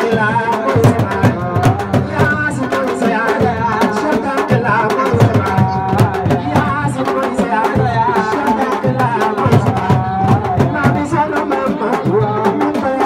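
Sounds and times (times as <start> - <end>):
hand drums: 0.0 - 13.0
men chanting through loudspeakers: 0.0 - 13.0.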